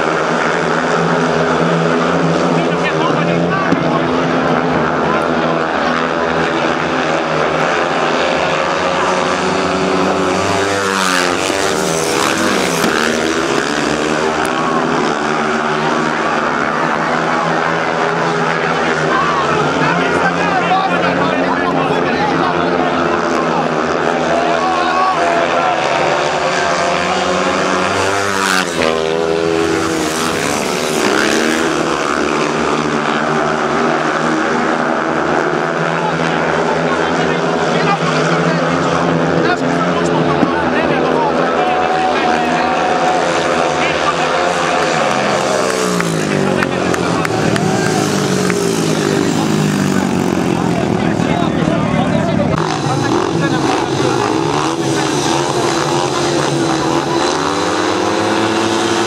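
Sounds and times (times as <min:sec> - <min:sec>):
motorcycles racing at high revs: 0:00.0 - 0:59.0.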